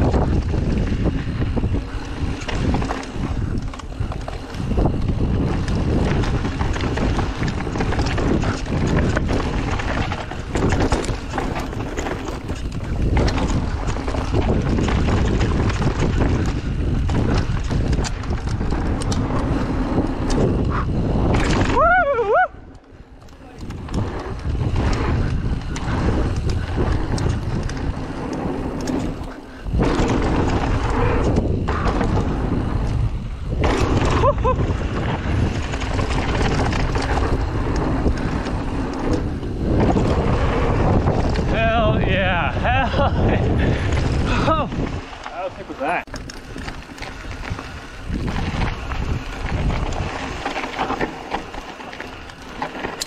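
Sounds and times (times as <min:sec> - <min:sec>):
tyres crunching on dirt: 0:00.0 - 0:20.6, 0:23.2 - 0:53.0
bike rattling: 0:00.0 - 0:53.0
wind buffeting microphone: 0:00.0 - 0:53.0.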